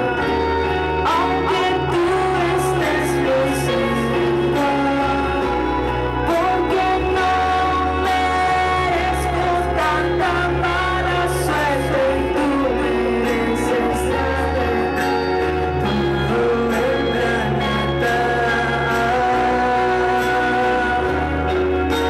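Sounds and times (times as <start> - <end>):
woman singing: 1.1 - 22.0.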